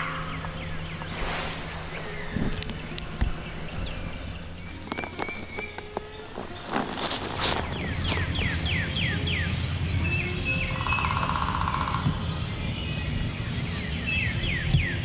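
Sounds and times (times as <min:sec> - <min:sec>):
songbird descending chirps: 0:00.0 - 0:15.0.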